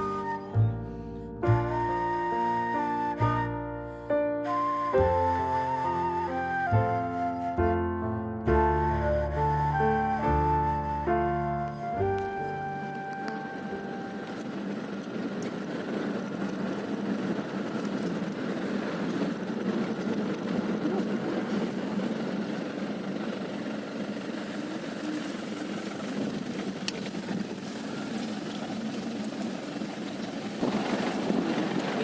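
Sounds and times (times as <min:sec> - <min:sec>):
road noise rumble: 0:00.0 - 0:32.0.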